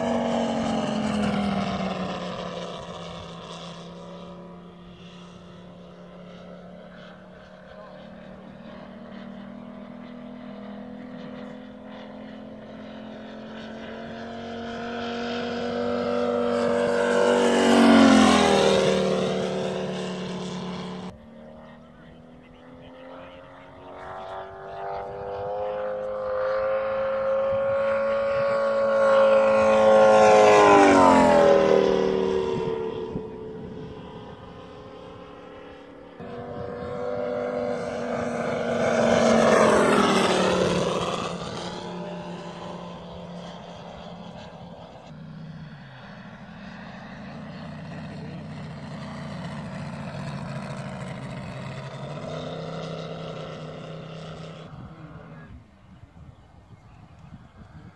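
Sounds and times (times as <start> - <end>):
model plane engine flying by: 0.0 - 57.9.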